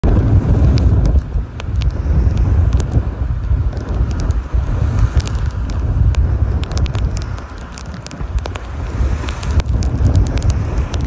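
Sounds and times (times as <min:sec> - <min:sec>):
raindrops ticking on microphone: 0:00.0 - 0:11.0
surf breaking against a seawall: 0:00.0 - 0:11.0
wind buffeting microphone: 0:00.0 - 0:11.0.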